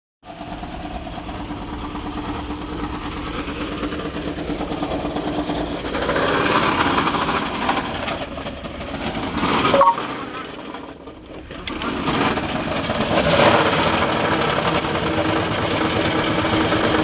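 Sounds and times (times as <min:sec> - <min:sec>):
engine running rough with clatter: 0:00.2 - 0:17.0.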